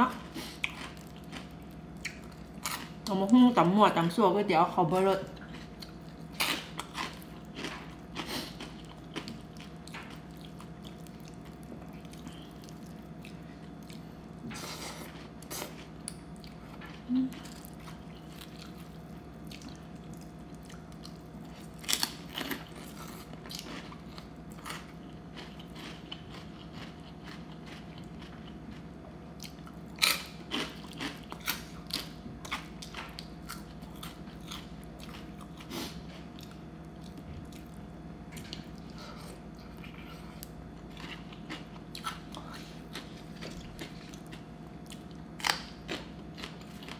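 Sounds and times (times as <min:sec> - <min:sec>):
person chewing and crunching: 0:00.0 - 0:03.3, 0:05.0 - 0:46.9
faint steady hum: 0:00.0 - 0:46.9.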